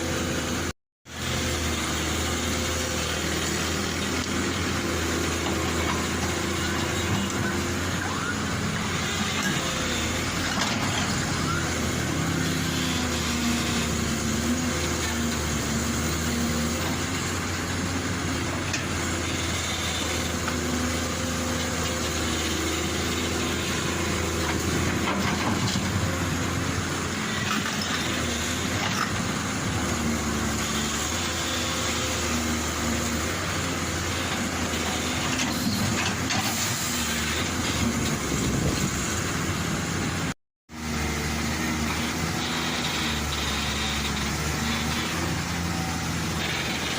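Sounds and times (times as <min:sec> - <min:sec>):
heavy machine diesel engine: 0:00.0 - 0:46.9.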